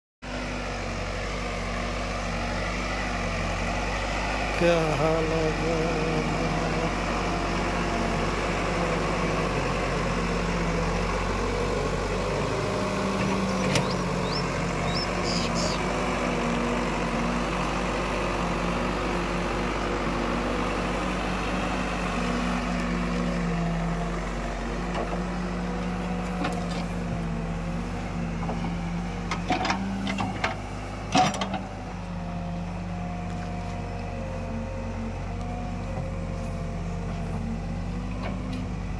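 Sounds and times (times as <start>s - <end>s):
diesel backhoe engine running: 0.2s - 38.9s.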